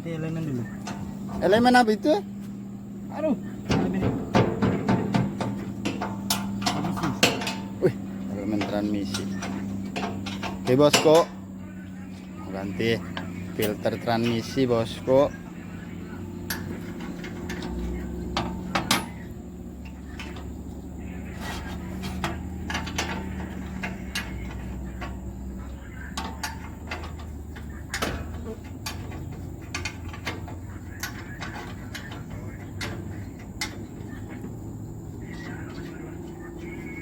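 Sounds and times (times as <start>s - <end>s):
low hum: 0.0s - 37.0s
hand tools knocking on metal: 3.3s - 37.0s.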